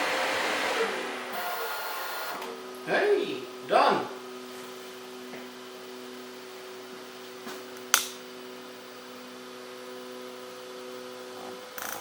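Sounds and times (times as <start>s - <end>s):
cooling fans humming: 0.0s - 11.7s.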